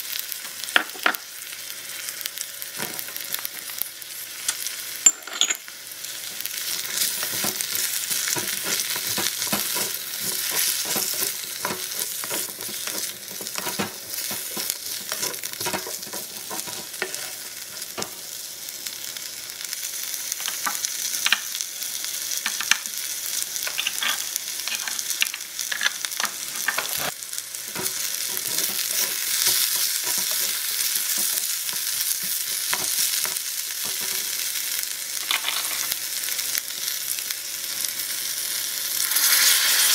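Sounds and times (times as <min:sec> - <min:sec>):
squash sizzling in wok: 0:00.0 - 0:39.9.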